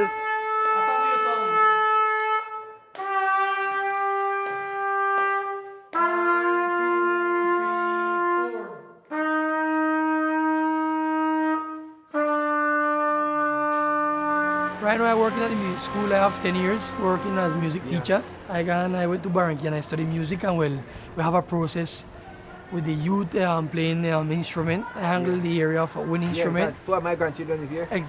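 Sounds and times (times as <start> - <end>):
wind instrument playing long notes: 0.0 - 26.7.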